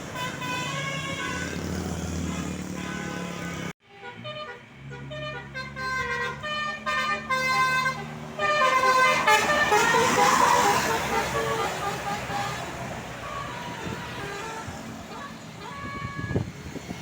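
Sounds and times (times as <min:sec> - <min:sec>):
musical bus horns playing tune: 0:00.0 - 0:16.7
bus engine running: 0:00.0 - 0:17.0.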